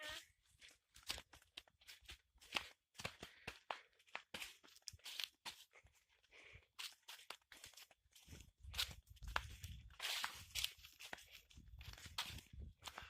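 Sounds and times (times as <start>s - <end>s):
footsteps crunching on dry ground: 0.0s - 13.0s.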